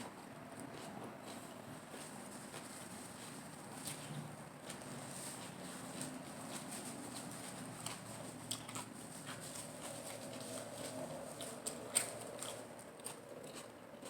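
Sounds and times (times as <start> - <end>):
wet crunching chewing: 0.0 - 14.0.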